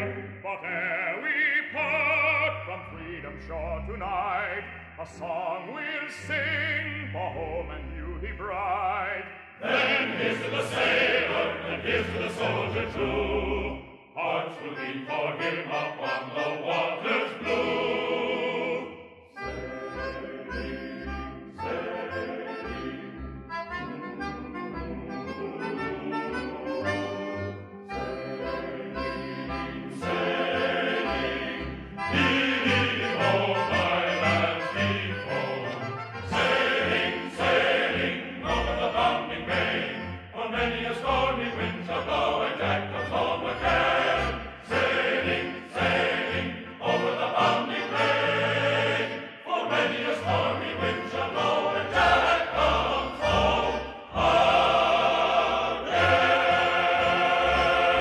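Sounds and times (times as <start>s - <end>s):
choir singing a sea shanty: 0.0s - 58.0s
orchestral accompaniment: 0.0s - 58.0s.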